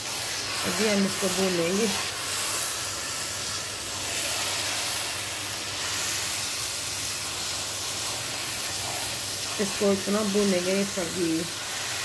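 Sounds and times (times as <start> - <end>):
carrots sizzling in ghee: 0.0 - 12.0.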